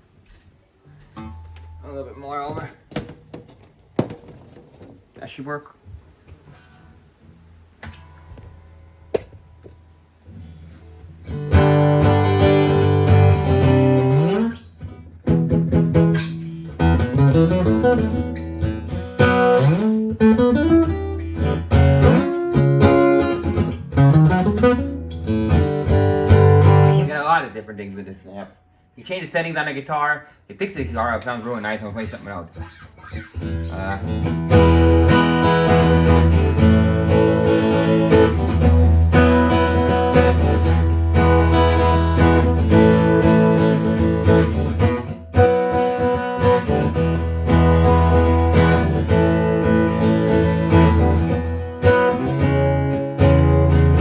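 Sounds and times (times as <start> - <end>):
amplified acoustic guitar: 0.2 - 3.6, 6.3 - 54.0.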